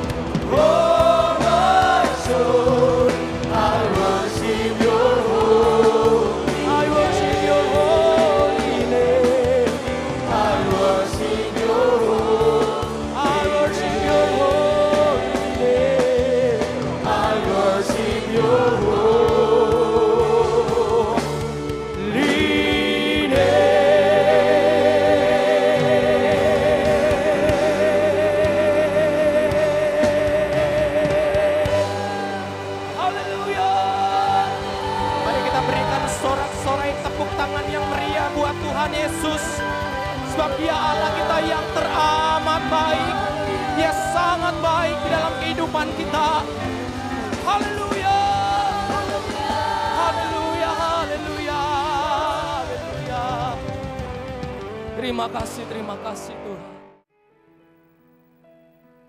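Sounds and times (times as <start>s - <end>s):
gospel singers: 0.0s - 54.9s
church band playing: 0.0s - 59.0s.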